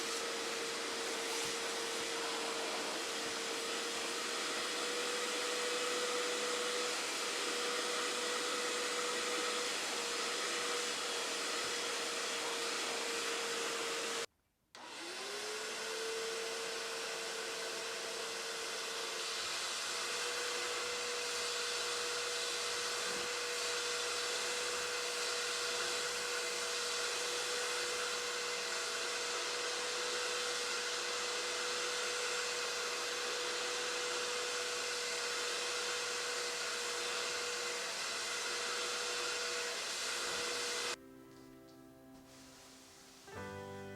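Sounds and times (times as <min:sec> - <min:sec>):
upholstery cleaner motor whine: 0:00.0 - 0:41.0.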